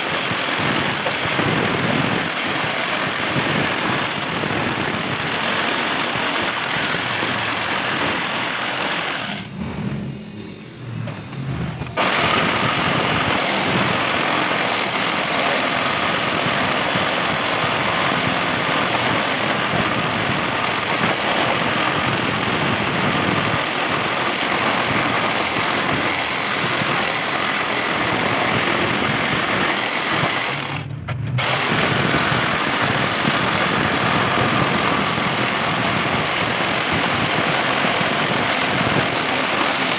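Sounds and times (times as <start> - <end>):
jigsaw cutting metal: 0.0 - 9.6, 11.8 - 39.9.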